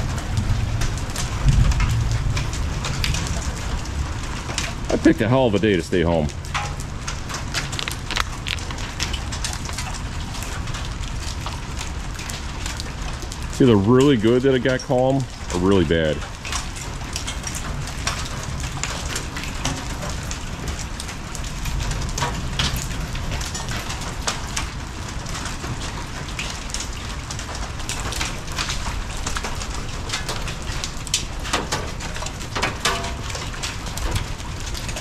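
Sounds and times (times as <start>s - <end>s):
hail pelting pavement and roof: 0.0s - 35.0s.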